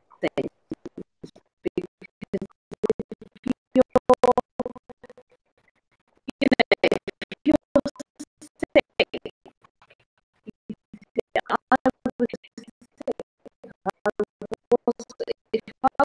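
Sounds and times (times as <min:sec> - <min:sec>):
choppy voice over video call: 0:00.0 - 0:05.1, 0:06.3 - 0:09.3, 0:10.5 - 0:16.0
glitchy clicks: 0:00.1 - 0:05.2, 0:06.3 - 0:09.6, 0:10.5 - 0:16.0.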